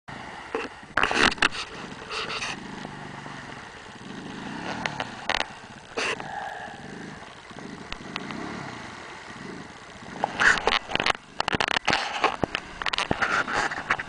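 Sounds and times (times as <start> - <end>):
quad bike engine revving: 1.0 - 14.0.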